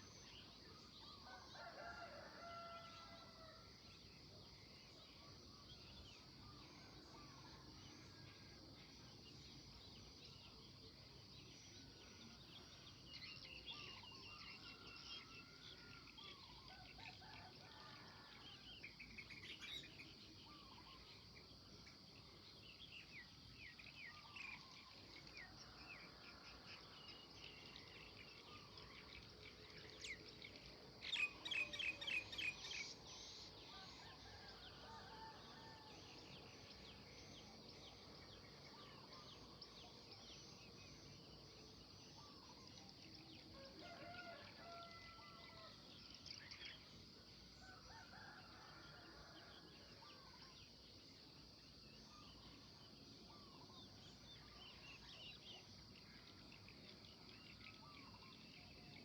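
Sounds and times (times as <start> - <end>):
songbirds chirping and singing: 4.1 - 59.0.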